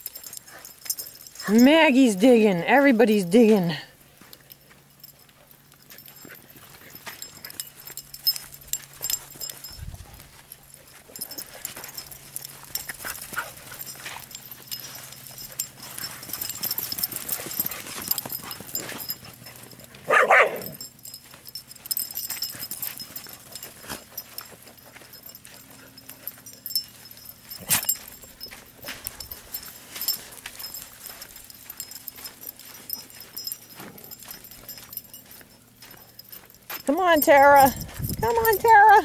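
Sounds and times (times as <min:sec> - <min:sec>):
dogs digging in dirt: 0:00.0 - 0:39.0.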